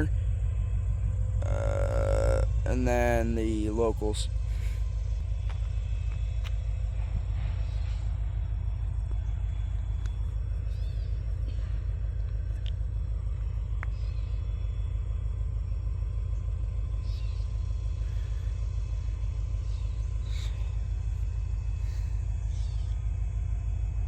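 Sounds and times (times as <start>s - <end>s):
diesel freight train rumble: 0.0s - 24.0s.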